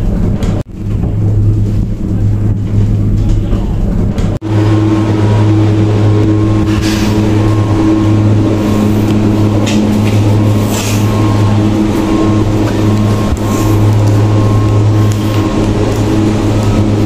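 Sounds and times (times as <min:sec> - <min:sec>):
cable car mechanical hum: 0:00.0 - 0:17.0.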